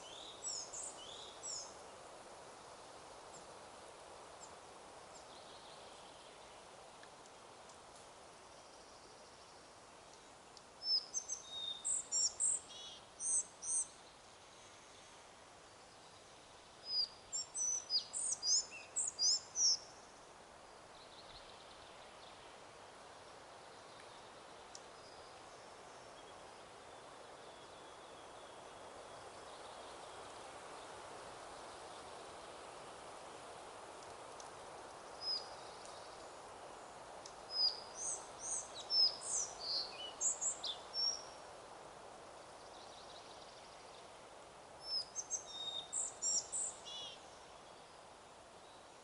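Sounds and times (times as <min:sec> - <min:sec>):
songbird chirping: 0:00.0 - 0:02.0, 0:08.5 - 0:20.2, 0:20.9 - 0:22.7, 0:23.4 - 0:41.6, 0:42.3 - 0:49.0
wind hiss: 0:00.0 - 0:49.0.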